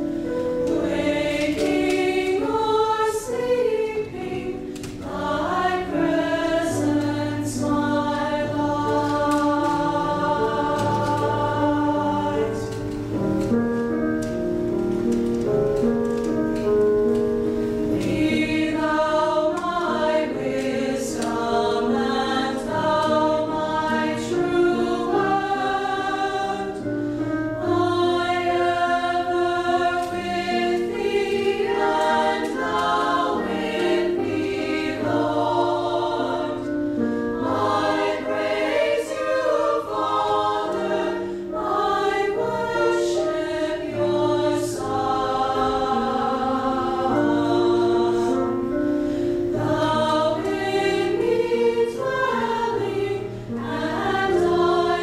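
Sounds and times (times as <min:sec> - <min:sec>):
small choir singing: 0:00.0 - 0:13.7, 0:17.6 - 0:55.0.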